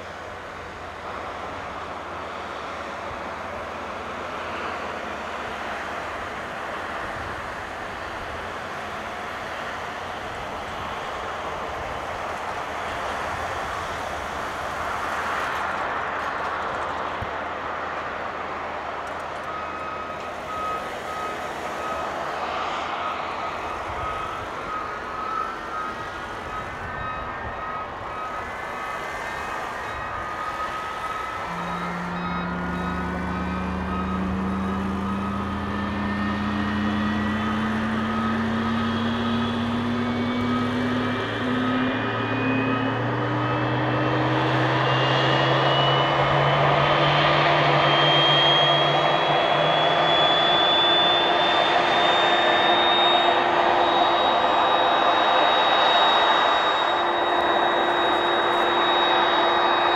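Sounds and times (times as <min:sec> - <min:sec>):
jet engine whine rising: 0:00.0 - 0:59.9.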